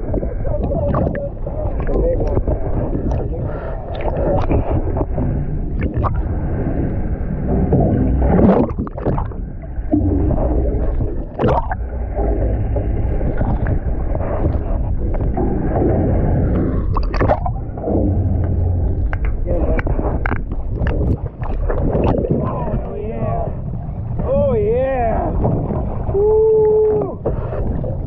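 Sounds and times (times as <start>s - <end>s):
boat engine running: 0.0s - 26.2s
water washing: 0.0s - 28.0s.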